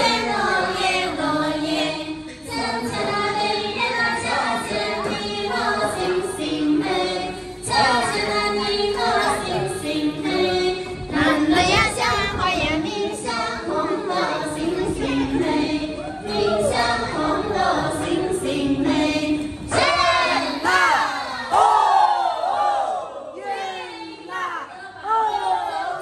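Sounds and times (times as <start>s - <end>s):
women singing folk song: 0.0s - 21.5s.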